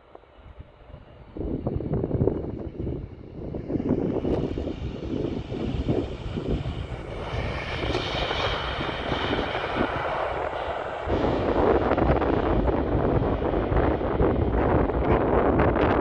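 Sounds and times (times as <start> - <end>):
wind buffeting microphone: 0.3 - 16.0
jet engines whining: 0.9 - 16.0.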